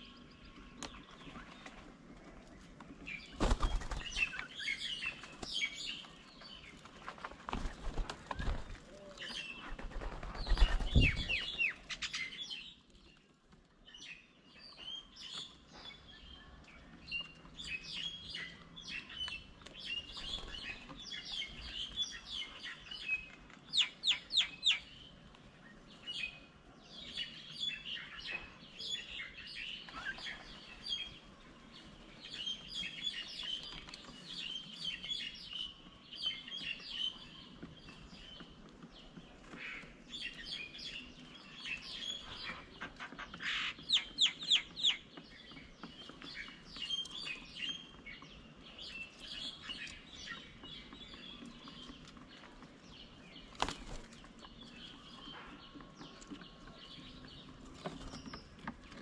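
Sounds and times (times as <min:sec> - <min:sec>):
birds fast chattering: 0:00.0 - 0:13.4, 0:17.1 - 0:59.0
birds chirping and calling: 0:00.0 - 0:59.0.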